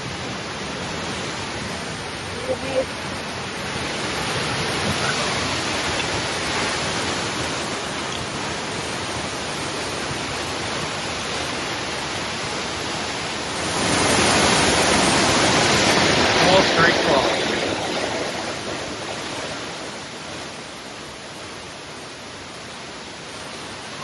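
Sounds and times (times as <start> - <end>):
waterfall crashing: 0.0 - 24.0.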